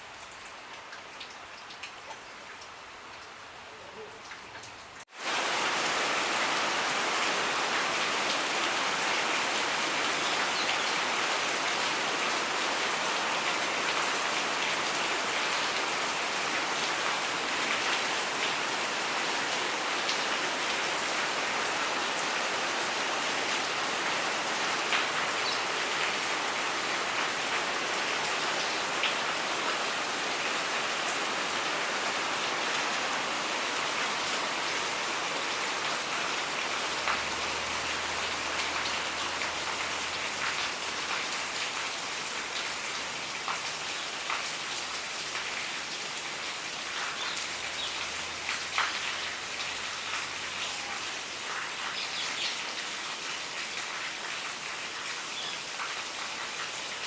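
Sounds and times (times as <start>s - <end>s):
rain drips: 0.0s - 57.0s
steady rain falling: 0.0s - 57.0s.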